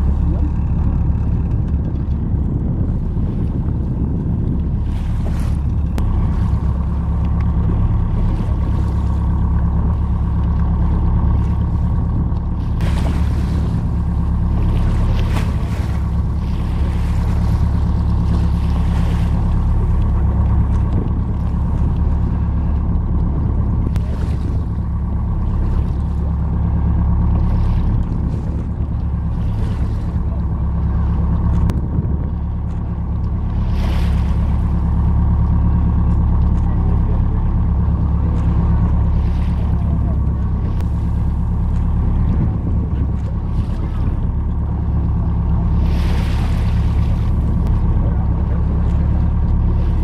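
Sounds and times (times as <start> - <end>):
boat engine droning: 0.0 - 50.0
wind gusts on microphone: 0.0 - 50.0.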